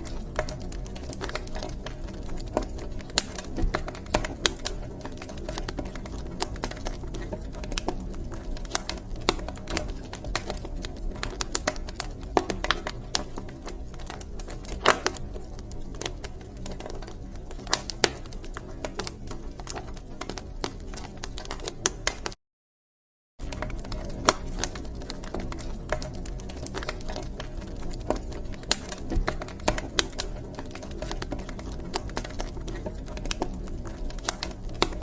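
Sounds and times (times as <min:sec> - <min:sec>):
wood fire crackling and popping: 0:00.0 - 0:22.4, 0:23.4 - 0:35.0.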